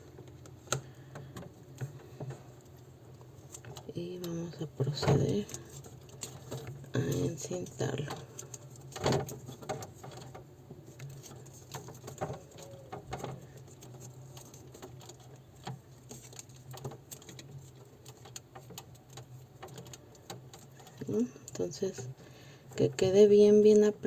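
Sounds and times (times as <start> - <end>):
tape crackling and rustling: 0.0 - 24.0.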